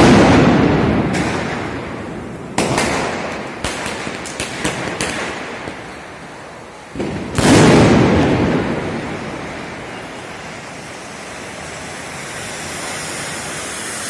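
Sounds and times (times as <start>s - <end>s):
firecracker loud bangs: 0.0s - 6.1s, 6.9s - 14.0s
firecracker sharp cracks: 0.0s - 14.0s.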